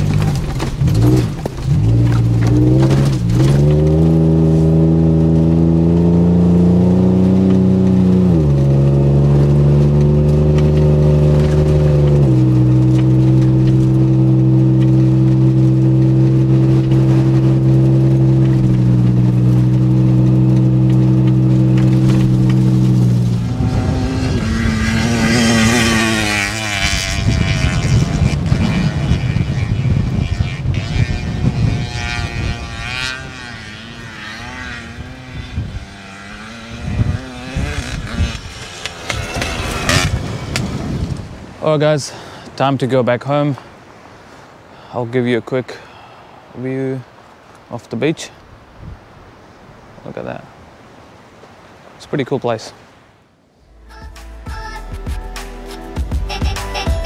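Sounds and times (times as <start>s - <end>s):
car engine pulling: 0.0s - 52.3s.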